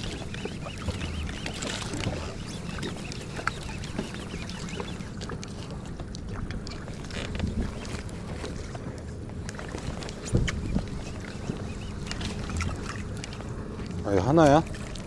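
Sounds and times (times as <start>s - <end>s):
water sloshing against boat: 0.0s - 15.0s.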